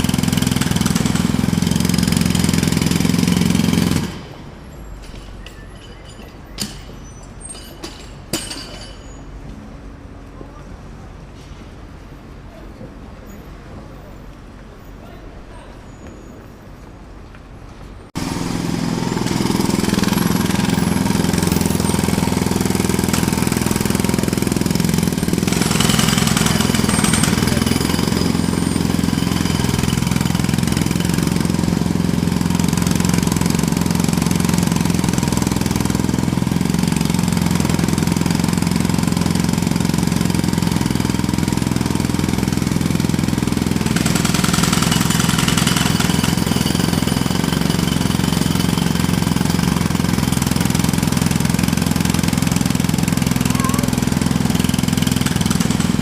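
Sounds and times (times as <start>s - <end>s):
jackhammer hammering: 0.0s - 9.2s, 18.2s - 56.0s.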